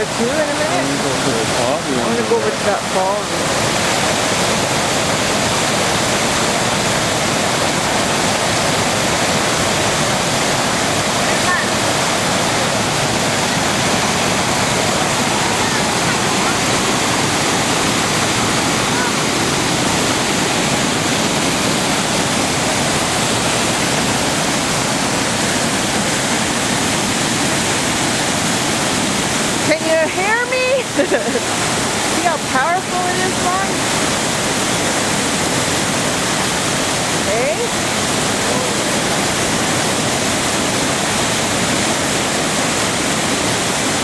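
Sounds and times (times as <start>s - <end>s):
waterfall rushing water: 0.0s - 44.0s.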